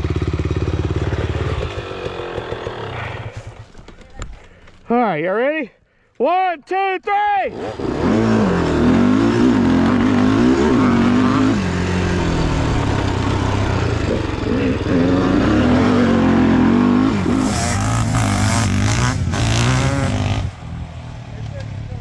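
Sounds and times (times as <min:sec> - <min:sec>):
dirt bike engines revving: 0:00.0 - 0:04.2, 0:07.4 - 0:22.0.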